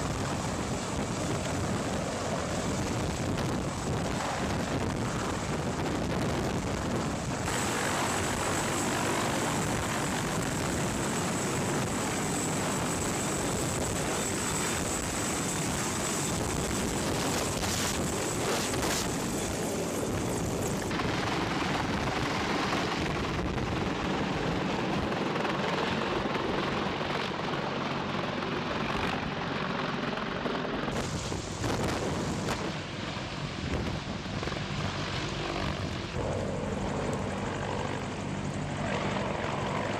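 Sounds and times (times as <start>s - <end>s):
helicopter rotor and engine noise: 0.0s - 39.9s
high turbine whine: 0.0s - 39.9s.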